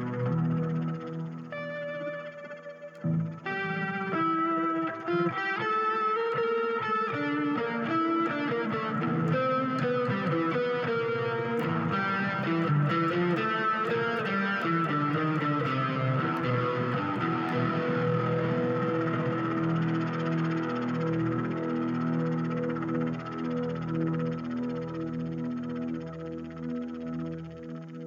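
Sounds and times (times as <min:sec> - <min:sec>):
electronic organ notes and chords: 0:00.0 - 0:28.0.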